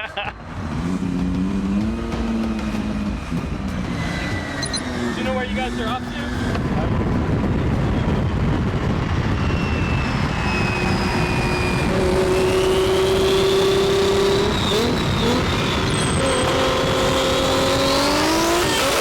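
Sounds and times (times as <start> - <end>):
car engines running loudly: 0.0 - 19.0
road noise: 0.0 - 19.0.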